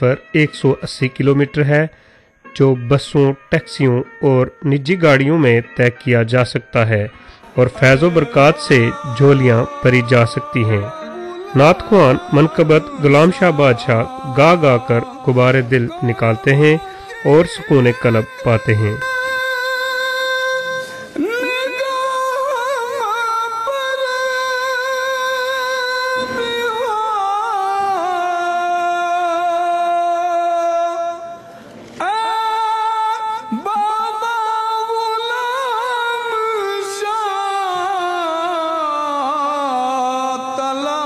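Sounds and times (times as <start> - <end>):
person singing devotional song: 0.0 - 41.0.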